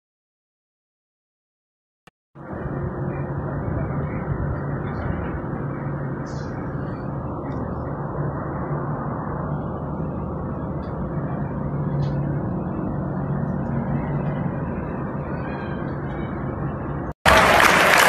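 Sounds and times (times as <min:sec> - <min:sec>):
dull low rumble: 0:02.4 - 0:17.2.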